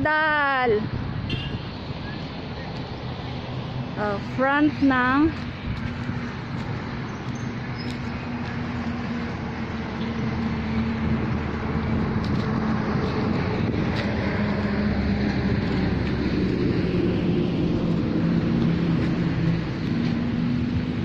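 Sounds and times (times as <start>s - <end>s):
road traffic: 0.0s - 21.0s
low engine hum: 0.8s - 21.0s.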